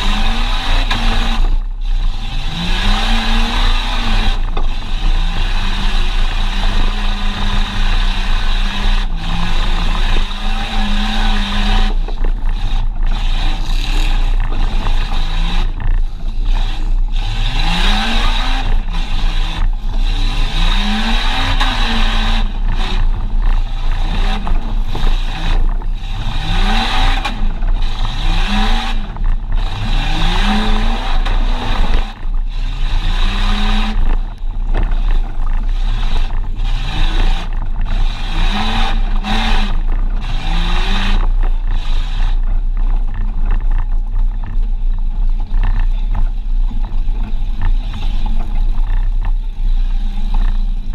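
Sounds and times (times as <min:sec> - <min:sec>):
engine revving: 0:00.0 - 0:50.9
heavy rattling and clatter: 0:00.0 - 0:50.9.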